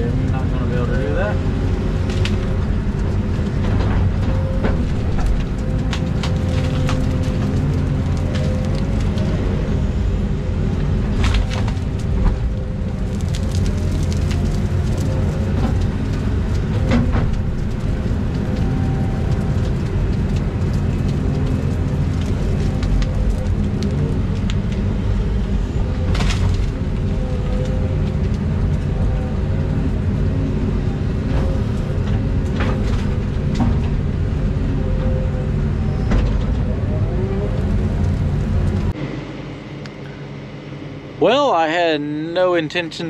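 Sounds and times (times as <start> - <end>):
excavator diesel engine running: 0.0 - 42.4.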